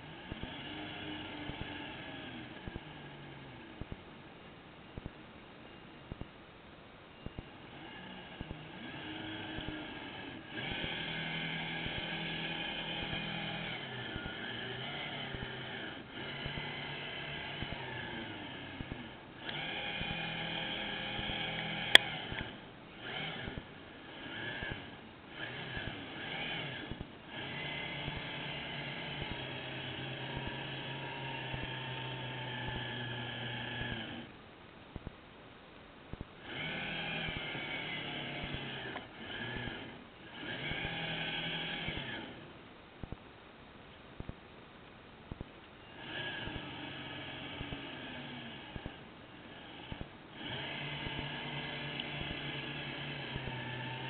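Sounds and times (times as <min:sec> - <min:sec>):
motor whining: 0:00.0 - 0:04.0, 0:07.3 - 0:34.4, 0:36.4 - 0:42.5, 0:45.8 - 0:54.0.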